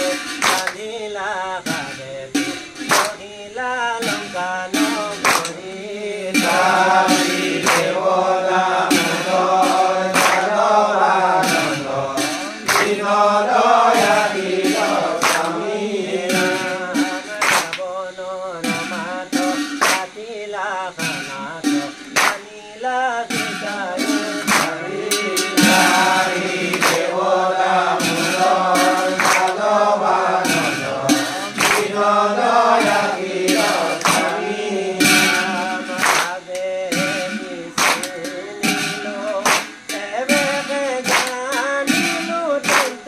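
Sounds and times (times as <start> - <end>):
men singing devotional chant: 0.0 - 43.0
sharp percussive strikes: 0.0 - 43.0.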